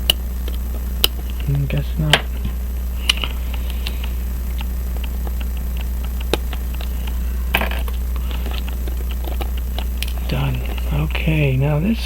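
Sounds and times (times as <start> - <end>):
steady low electrical hum: 0.0 - 12.0.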